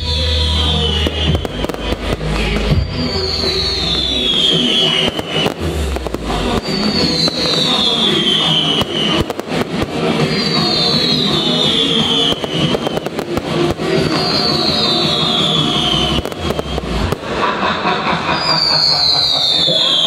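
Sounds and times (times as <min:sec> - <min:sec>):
loud show music: 0:00.0 - 0:20.0
firework shells bursting and crackling: 0:00.9 - 0:20.0.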